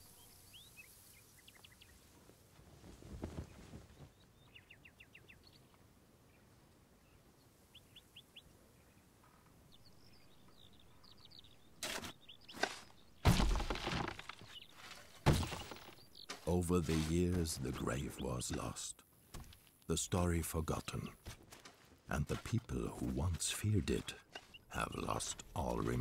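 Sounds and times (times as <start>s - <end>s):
small birds chirping: 0.0s - 2.2s, 3.4s - 13.3s, 13.9s - 26.0s.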